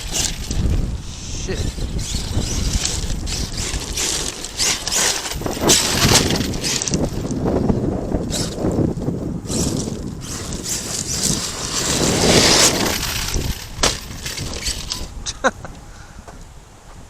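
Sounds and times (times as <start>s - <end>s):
tyres churning on gravel: 0.0s - 16.4s.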